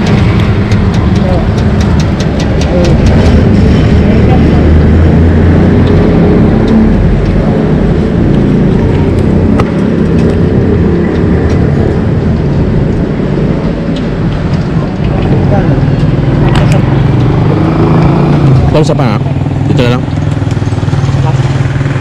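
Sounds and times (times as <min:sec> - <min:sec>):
low rumble of street noise: 0:00.0 - 0:22.0.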